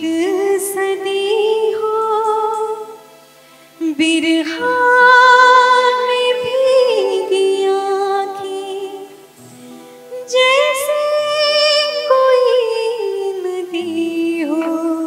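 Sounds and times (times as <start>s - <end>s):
woman singing: 0.0s - 3.0s, 3.8s - 9.3s, 10.1s - 15.0s.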